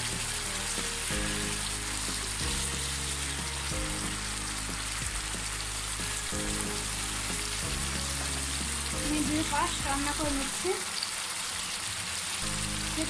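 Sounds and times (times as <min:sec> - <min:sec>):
background music of low notes: 0:00.0 - 0:10.9, 0:12.4 - 0:13.0
fish sizzling in oil: 0:00.0 - 0:13.0.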